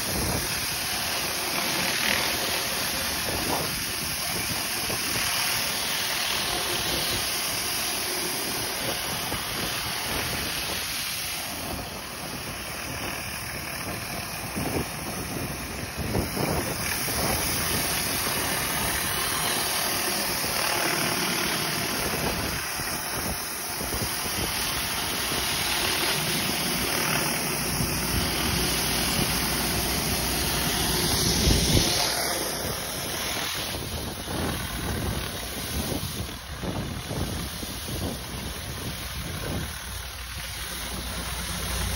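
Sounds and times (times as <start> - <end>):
engine running: 0.0 - 41.9
high-pressure water spray: 0.0 - 41.9.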